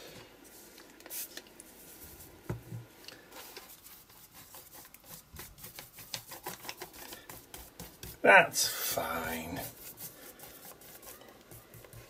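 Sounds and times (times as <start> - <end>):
paintbrush swishing on paper: 0.4 - 2.4, 3.3 - 12.0.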